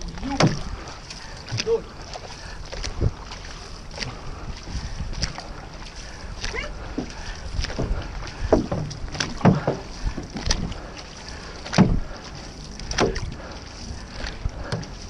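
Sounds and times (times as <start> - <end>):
paddles splashing in water: 0.0 - 15.0
rush of water: 0.0 - 15.0.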